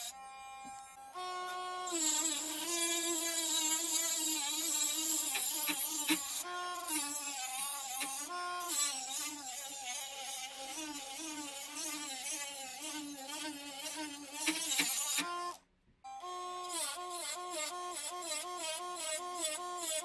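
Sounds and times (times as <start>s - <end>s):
rotary tool grinding steel: 0.0s - 0.9s, 1.8s - 15.6s, 16.7s - 20.0s.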